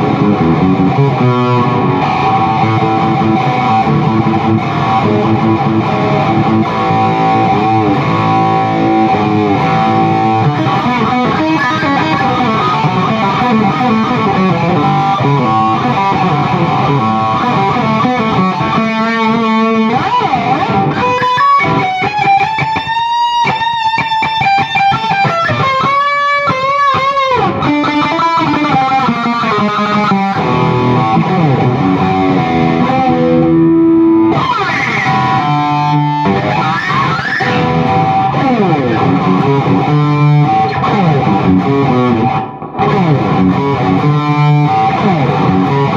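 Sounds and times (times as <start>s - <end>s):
distorted electric guitar riffs: 0.0s - 45.9s.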